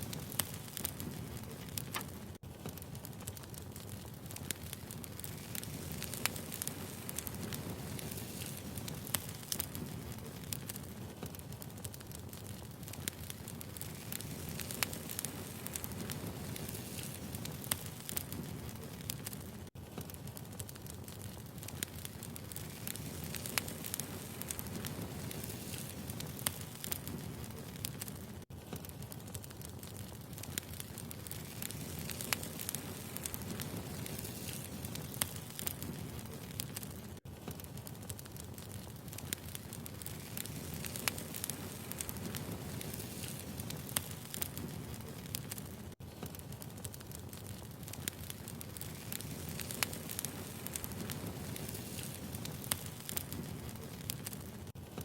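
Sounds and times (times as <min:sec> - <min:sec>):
fire crackles and pops: 0:00.0 - 0:55.0
low rumble of flames: 0:00.0 - 0:55.0.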